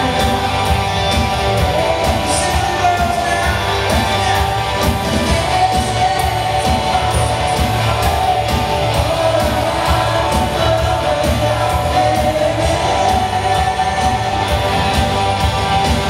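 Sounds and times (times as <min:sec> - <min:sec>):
drum beat: 0:00.0 - 0:16.0
live band playing: 0:00.0 - 0:16.0
person singing: 0:00.0 - 0:16.0.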